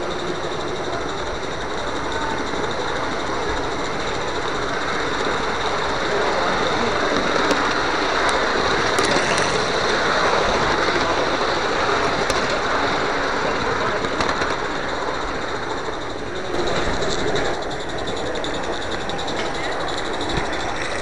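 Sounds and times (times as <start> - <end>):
steam locomotive hissing: 0.0 - 21.0.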